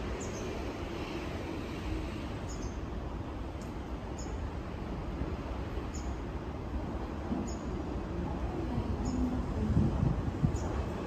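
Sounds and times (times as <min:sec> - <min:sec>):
railway station background noise: 0:00.0 - 0:11.0.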